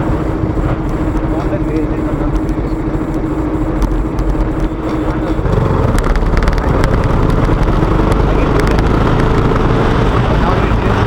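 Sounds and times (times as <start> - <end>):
motorcycle engine: 0.0 - 11.0
wind noise: 0.0 - 11.0.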